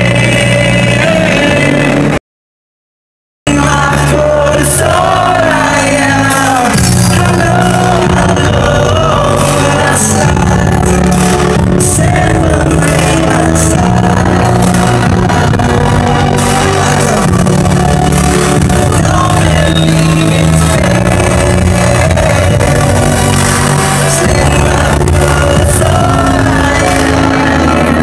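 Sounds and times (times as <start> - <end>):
hardcore dance music: 0.0 - 2.2, 3.5 - 28.0
person singing: 0.0 - 2.2, 3.5 - 28.0.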